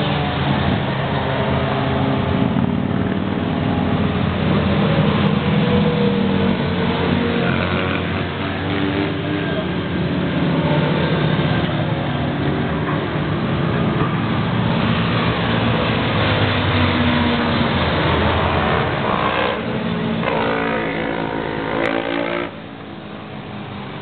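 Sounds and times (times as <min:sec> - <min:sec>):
motorcycles racing past: 0:00.0 - 0:22.7.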